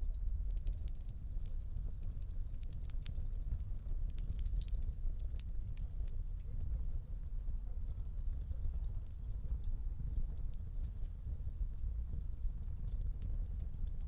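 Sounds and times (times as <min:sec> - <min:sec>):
fire pops and snaps: 0:00.0 - 0:14.0
low rumble of flames: 0:00.0 - 0:14.0.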